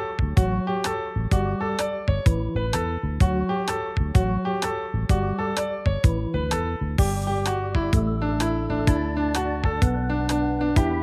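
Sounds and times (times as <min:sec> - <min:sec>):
keyboard melody over a beat: 0:00.0 - 0:11.0.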